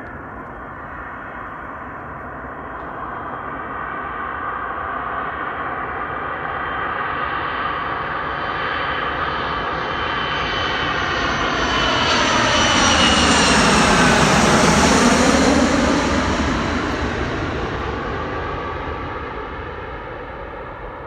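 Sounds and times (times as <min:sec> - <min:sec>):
jet airliner passing overhead: 0:00.0 - 0:21.0.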